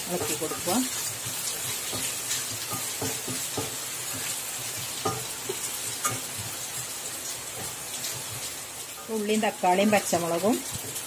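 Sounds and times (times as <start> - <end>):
spatula scraping and knocking pan: 0.0 - 11.0
vegetables sizzling in oil: 0.0 - 11.0.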